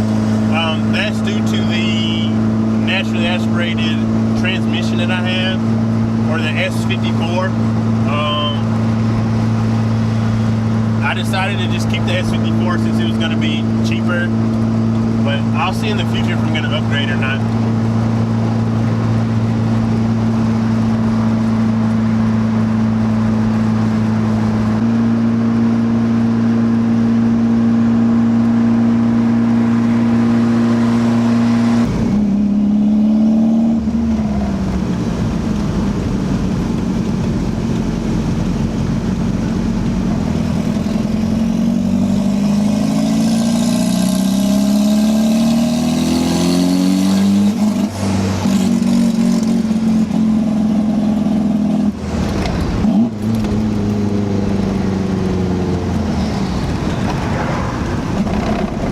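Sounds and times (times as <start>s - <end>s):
loud car engine revving: 0.0s - 58.9s.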